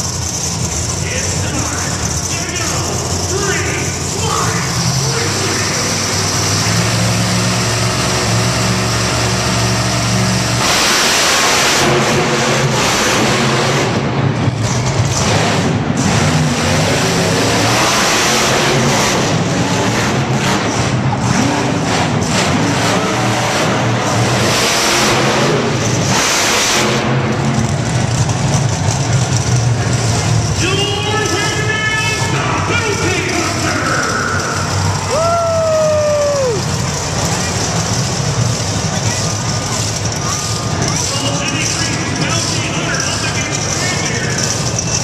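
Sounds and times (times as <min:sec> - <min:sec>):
truck engines revving: 0:00.0 - 0:45.0.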